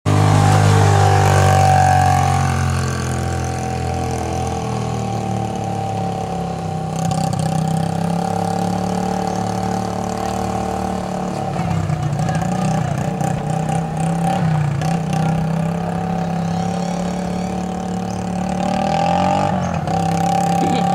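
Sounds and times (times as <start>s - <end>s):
motorcycle engine idling: 0.1s - 18.6s.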